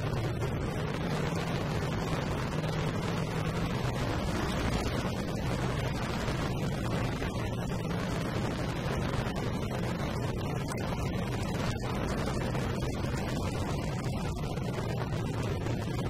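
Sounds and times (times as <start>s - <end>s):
motorcycle engine running: 0.0s - 16.0s
other motorcycles riding: 0.0s - 16.0s
wind and road rush: 0.0s - 16.0s.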